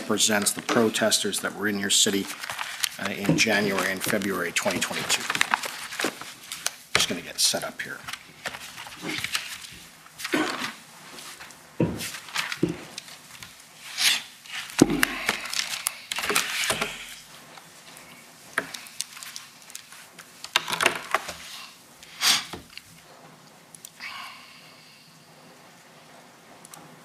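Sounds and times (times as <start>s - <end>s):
paper rustling and crinkling: 0.0s - 23.1s.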